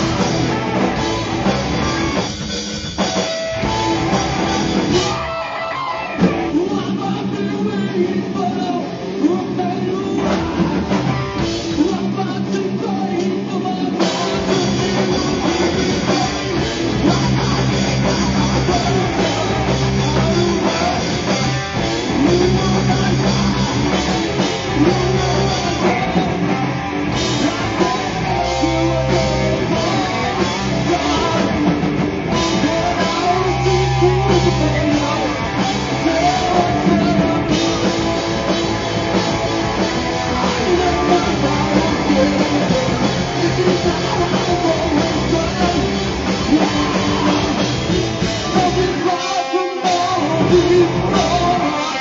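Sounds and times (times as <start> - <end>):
electric guitar: 0.0 - 52.0
live rock band playing: 0.0 - 52.0.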